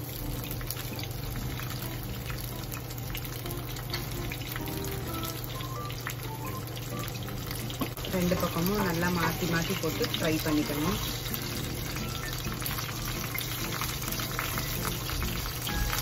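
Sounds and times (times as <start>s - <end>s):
crab frying in hot oil: 0.0s - 16.0s.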